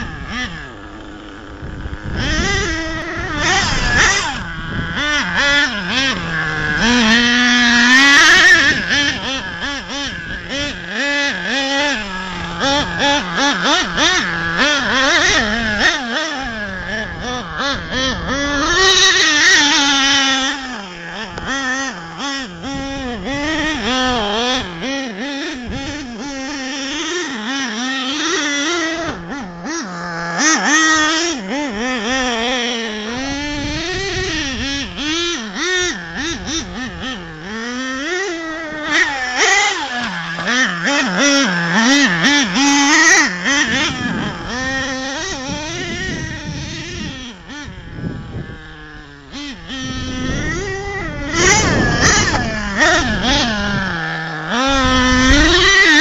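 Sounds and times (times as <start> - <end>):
small nitro engine revving: 0.0 - 56.0
tyres on gravel: 0.0 - 56.0.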